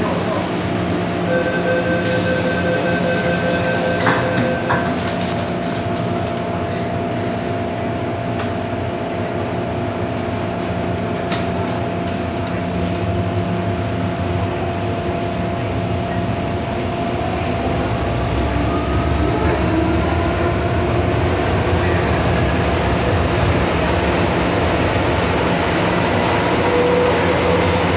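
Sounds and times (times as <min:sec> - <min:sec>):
high train whine: 0:00.0 - 0:27.9
metro train hum and rumble: 0:00.0 - 0:27.9.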